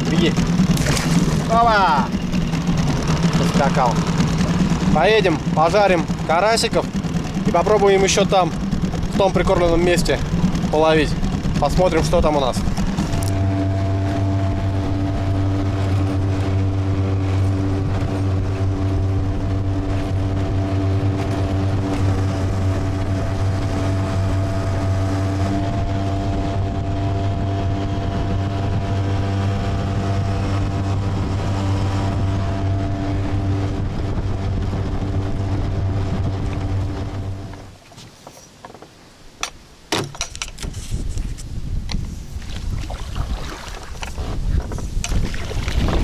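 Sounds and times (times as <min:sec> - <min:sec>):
outboard motor running: 0:00.0 - 0:38.8, 0:40.6 - 0:46.0.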